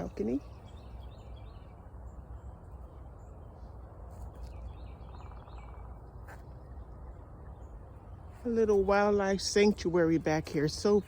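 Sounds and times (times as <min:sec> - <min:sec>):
wild birds chirping faintly: 0:00.0 - 0:11.0.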